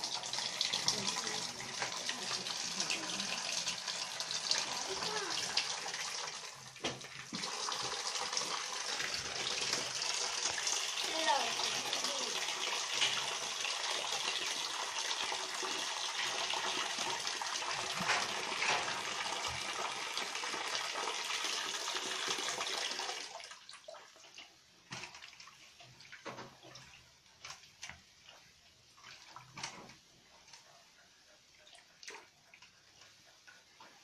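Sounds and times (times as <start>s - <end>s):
splashes in a basin: 0.0s - 30.0s
tap water running into basin: 0.0s - 34.0s.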